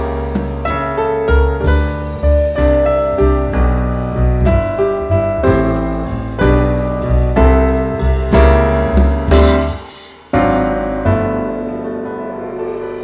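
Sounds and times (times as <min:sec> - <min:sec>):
piano chords over bass notes: 0:00.0 - 0:13.0.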